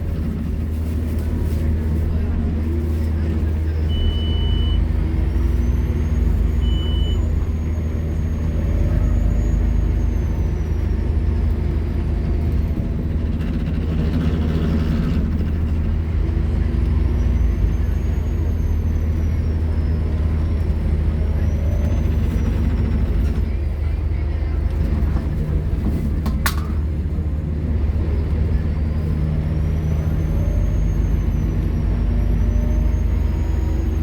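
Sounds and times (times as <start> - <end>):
bus diesel engine running: 0.0 - 34.0.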